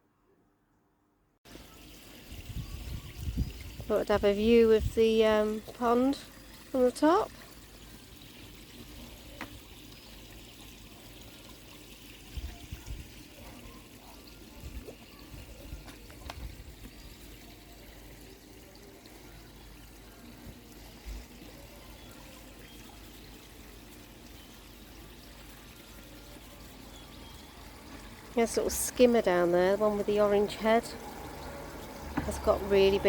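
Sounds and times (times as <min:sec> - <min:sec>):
water pouring and trickling: 0:01.5 - 0:33.0.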